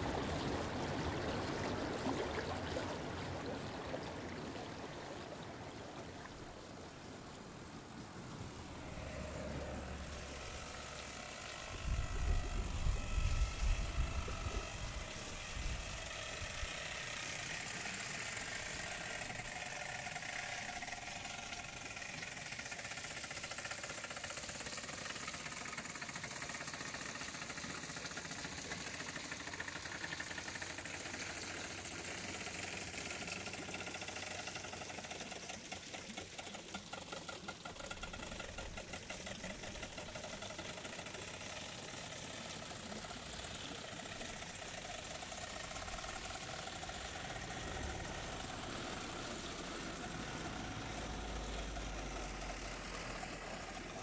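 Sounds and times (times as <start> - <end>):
water rushing along canal: 0.0 - 54.0.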